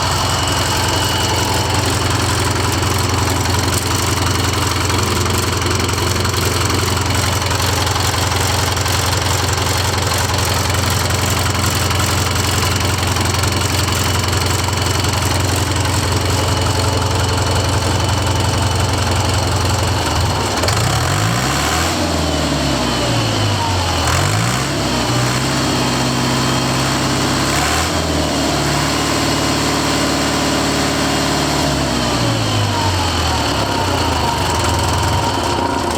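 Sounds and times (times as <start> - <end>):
diesel engine idling and revving: 0.0 - 35.9.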